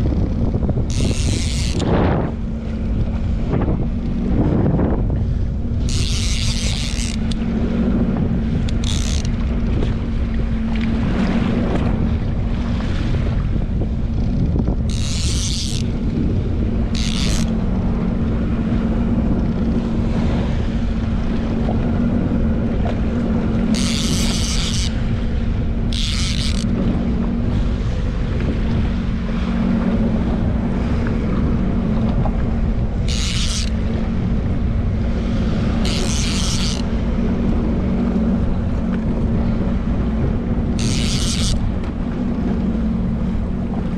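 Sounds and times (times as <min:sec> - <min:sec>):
jetski engine running: 0:00.0 - 0:43.9
sea noise: 0:00.0 - 0:43.9
wind buffeting microphone: 0:00.0 - 0:43.9.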